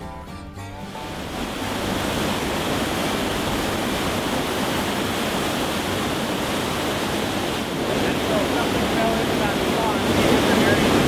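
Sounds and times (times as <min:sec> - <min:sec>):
whitewater rapids rushing: 0:00.8 - 0:11.0.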